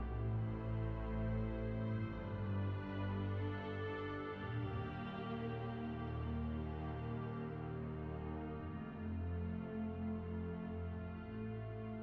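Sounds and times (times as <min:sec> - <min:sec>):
soft ambient music: 0:00.0 - 0:12.0.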